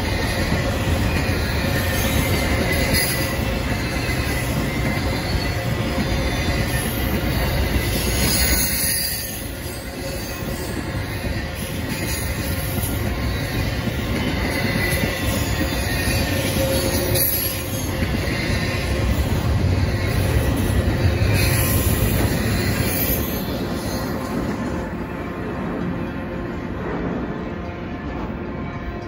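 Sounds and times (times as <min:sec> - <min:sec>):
train wheels rolling on rails: 0:00.0 - 0:29.0.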